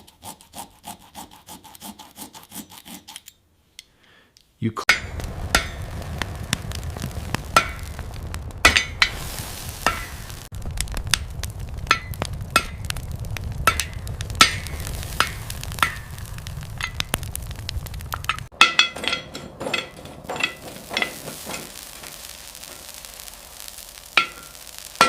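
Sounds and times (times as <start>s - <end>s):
forge rumbling: 4.9s - 25.0s
sharp clicks and crackles: 4.9s - 25.0s.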